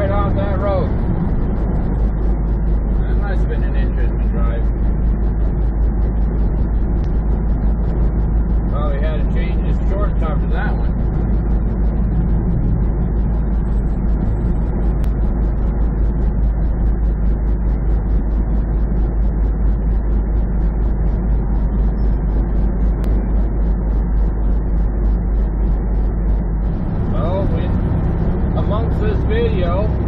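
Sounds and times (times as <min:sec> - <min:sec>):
road noise: 0:00.0 - 0:30.0
truck diesel engine rumble: 0:00.0 - 0:30.0.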